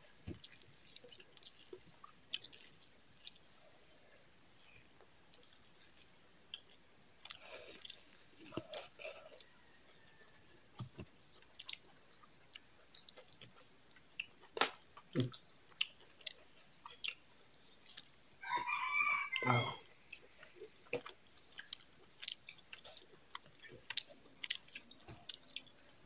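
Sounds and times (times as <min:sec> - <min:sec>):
chewing and wet mouth smacks: 0:00.1 - 0:03.6, 0:04.6 - 0:18.2, 0:19.3 - 0:25.9.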